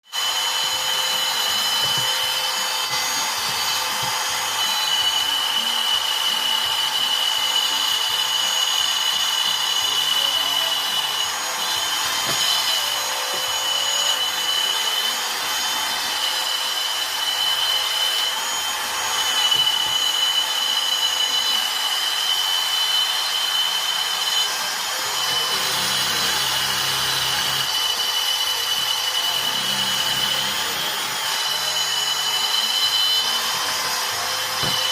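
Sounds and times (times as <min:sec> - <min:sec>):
power tool whining on wood: 0:00.0 - 0:34.9.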